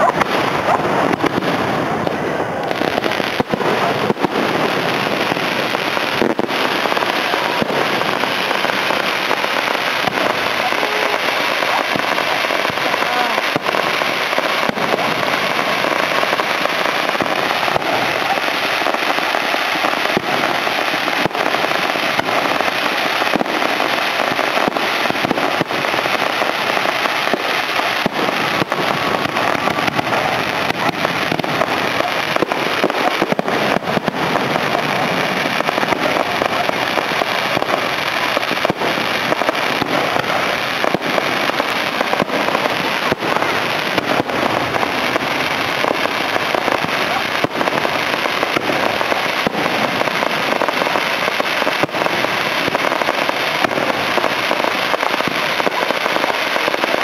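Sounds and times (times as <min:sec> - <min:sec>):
fireworks bangs: 0:00.0 - 0:57.0
fireworks crackling: 0:00.0 - 0:57.0.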